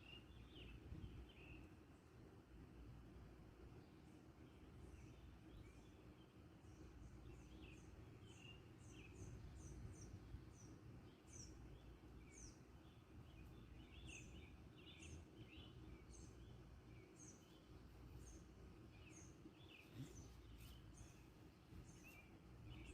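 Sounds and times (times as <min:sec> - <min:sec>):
lower bird chirps: 0:03.8 - 0:22.9.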